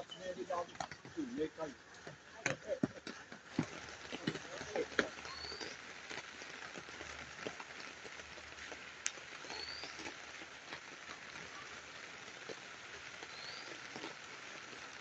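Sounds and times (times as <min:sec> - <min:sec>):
steady rain: 0:00.0 - 0:15.0
water dripping: 0:00.0 - 0:15.0.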